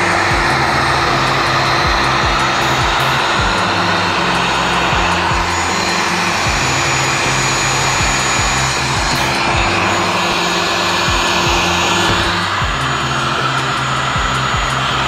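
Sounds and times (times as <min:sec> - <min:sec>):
heat gun blower running: 0:00.0 - 0:15.0.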